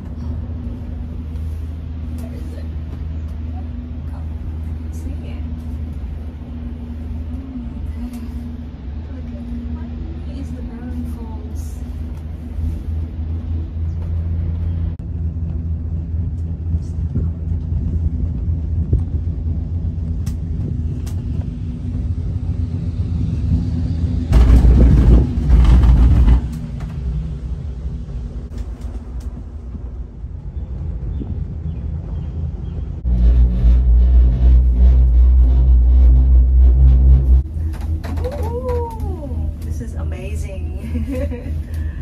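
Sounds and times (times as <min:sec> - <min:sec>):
gondola cabin hum and rumble: 0:00.0 - 0:42.0.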